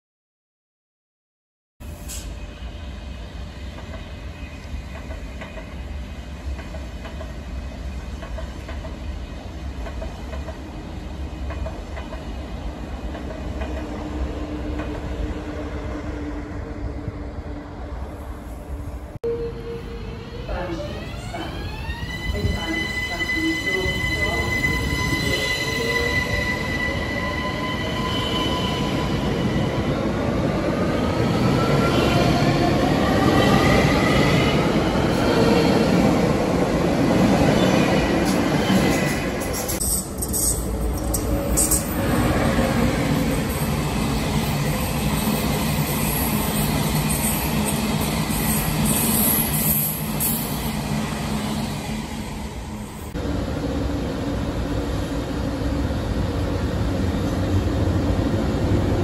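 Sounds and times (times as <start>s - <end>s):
electric locomotive hum: 1.8s - 59.0s.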